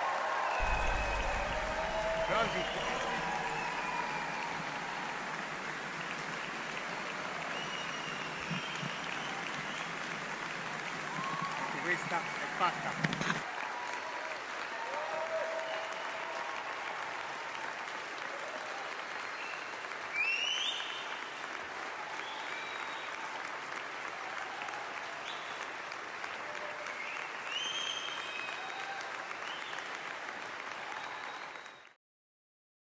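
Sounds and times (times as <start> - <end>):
applause: 0.0 - 32.0.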